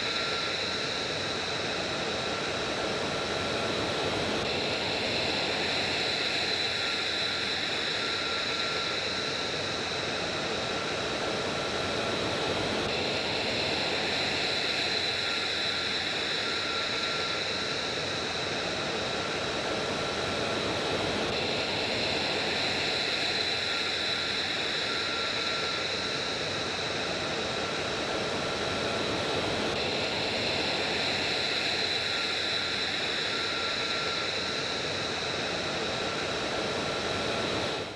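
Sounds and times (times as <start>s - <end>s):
jet engines running: 0.0s - 37.9s.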